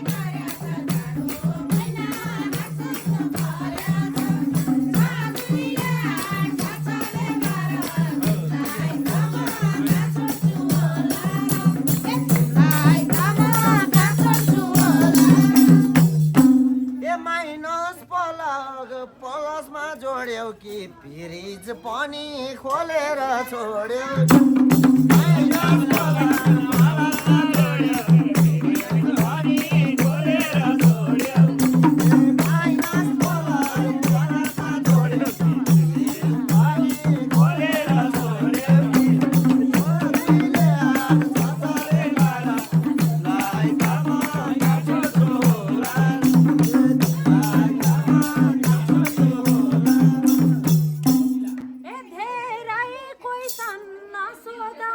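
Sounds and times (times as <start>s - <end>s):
folk music with drum beat: 0.0s - 17.1s, 24.2s - 52.6s.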